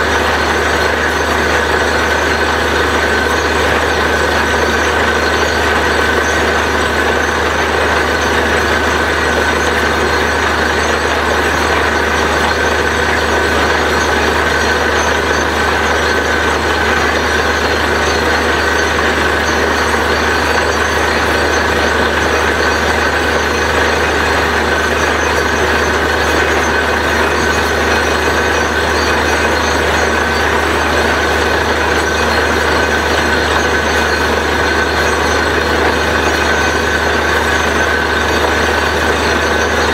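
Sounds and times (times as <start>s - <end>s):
drilling rig engine drone: 0.0s - 39.9s.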